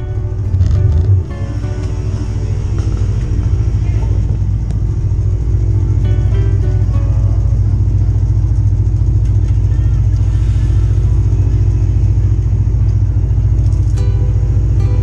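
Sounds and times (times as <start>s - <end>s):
atv engines idling: 0.0s - 15.0s.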